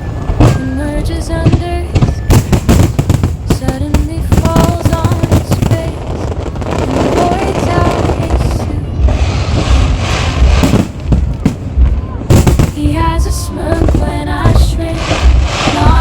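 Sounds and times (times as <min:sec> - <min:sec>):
fireworks bangs and crackle: 0:00.0 - 0:16.0.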